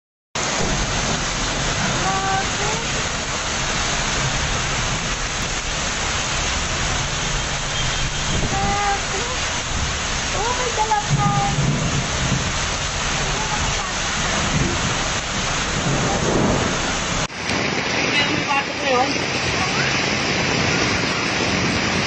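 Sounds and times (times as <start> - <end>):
heavy rain and hail: 0.4 - 22.0
passing traffic rumbling: 0.4 - 22.0.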